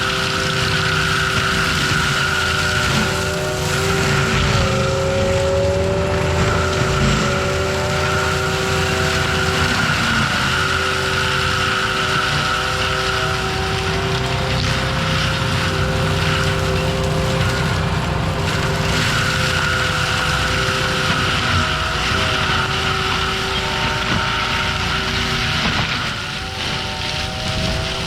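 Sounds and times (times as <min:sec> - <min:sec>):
diesel engine running: 0:00.0 - 0:28.0
mulcher drum whine: 0:00.0 - 0:28.0.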